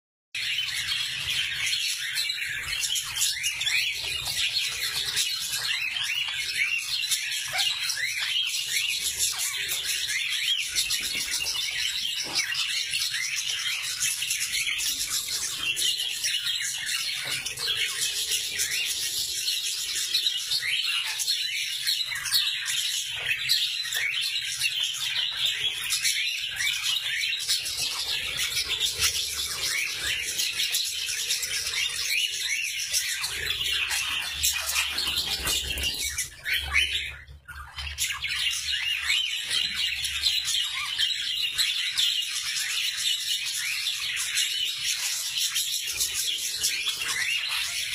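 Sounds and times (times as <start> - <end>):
birds chattering and chirping: 0.4 - 47.9.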